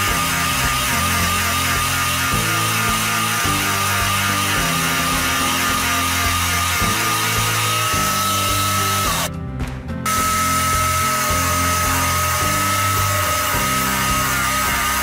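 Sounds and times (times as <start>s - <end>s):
jigsaw cutting plywood: 0.0s - 9.3s, 10.1s - 15.0s
background music with slow chords: 0.0s - 15.0s.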